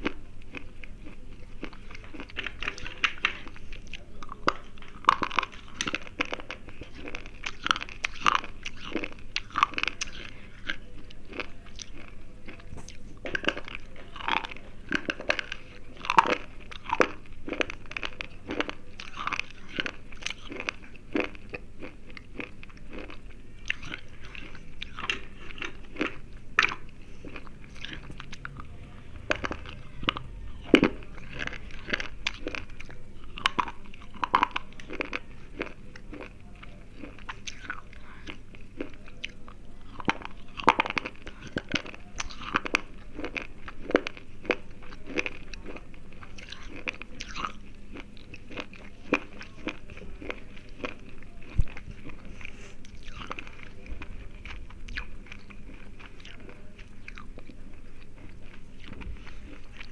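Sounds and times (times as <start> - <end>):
crunchy biting and chewing: 0.0 - 59.9.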